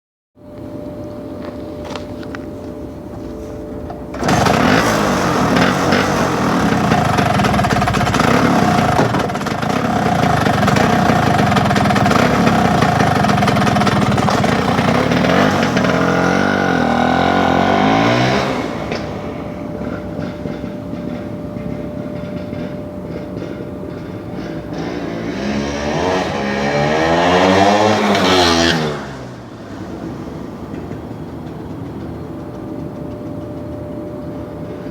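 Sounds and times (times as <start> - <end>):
scooter engine running: 1.4 - 34.9.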